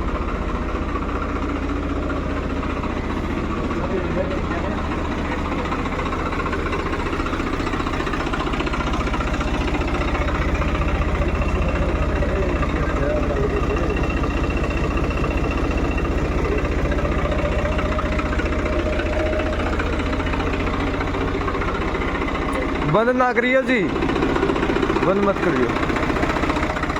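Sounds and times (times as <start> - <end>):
tractor diesel engine idling: 0.0 - 26.9.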